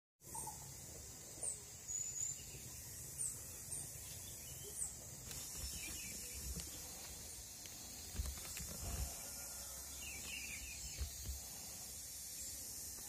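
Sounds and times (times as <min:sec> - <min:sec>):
small birds chirping: 0:00.2 - 0:13.0
steady high hiss: 0:00.2 - 0:13.0.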